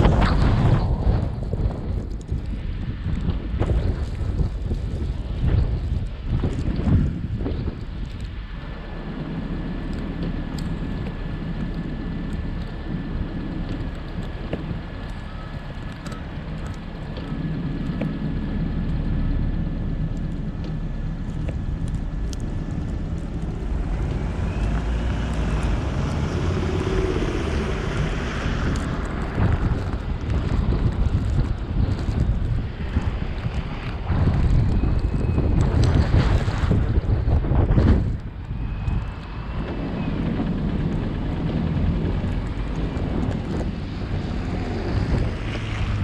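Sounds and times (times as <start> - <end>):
car engine and tyre rumble: 0.0 - 46.0
wind noise: 0.0 - 46.0.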